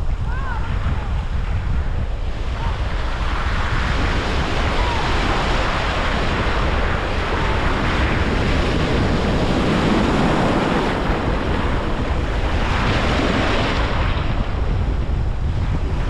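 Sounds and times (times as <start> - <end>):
wind buffeting microphone: 0.0 - 16.0
surf breaking on beach: 0.1 - 16.0.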